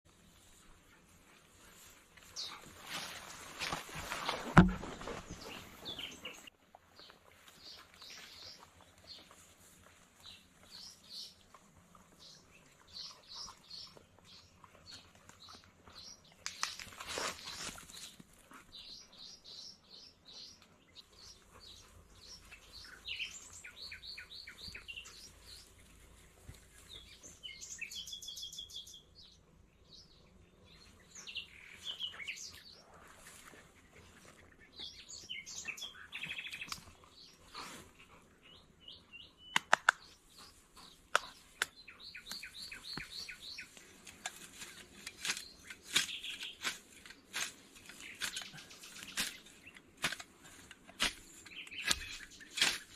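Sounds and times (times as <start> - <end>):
small birds chirping: 0.1 - 52.9.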